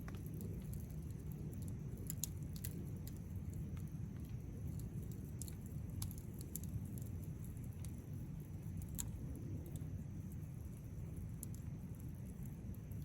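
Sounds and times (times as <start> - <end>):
campfire crackling: 0.0 - 13.0
low rumble of burning: 0.0 - 13.0.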